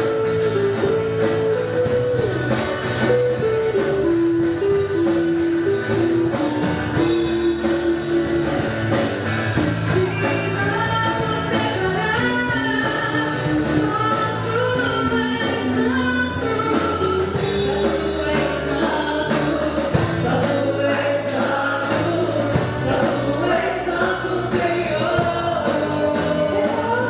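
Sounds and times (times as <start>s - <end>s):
gospel band music: 0.0s - 27.0s.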